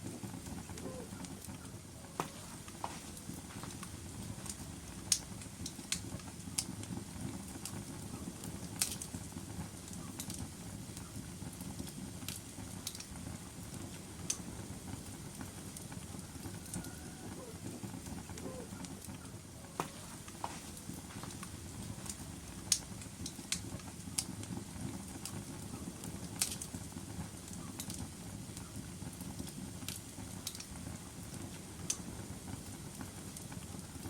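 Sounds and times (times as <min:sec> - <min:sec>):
fire crackles and pops: 0:00.0 - 0:34.0
low rumble of flames: 0:00.0 - 0:34.0.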